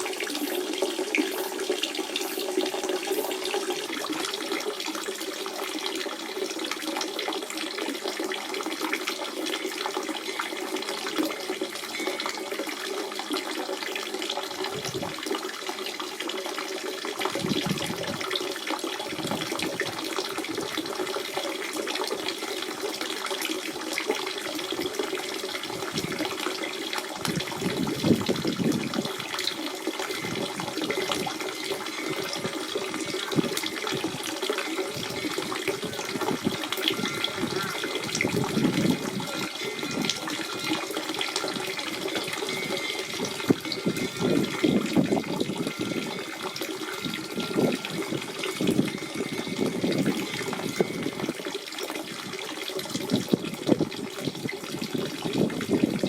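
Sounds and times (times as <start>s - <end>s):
spring water running and splashing: 0.0s - 56.0s.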